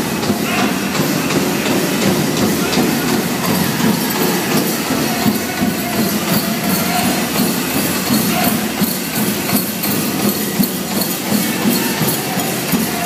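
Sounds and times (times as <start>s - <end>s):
bells jingling: 0.0s - 13.0s
drum beating: 0.0s - 13.0s.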